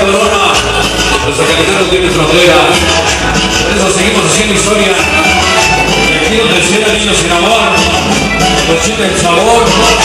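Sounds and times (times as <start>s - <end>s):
loud latin dance music: 0.0s - 10.0s.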